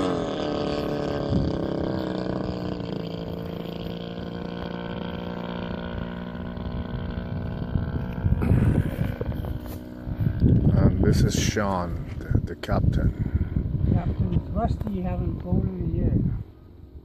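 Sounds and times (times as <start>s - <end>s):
model airplane motor droning: 0.0s - 17.0s.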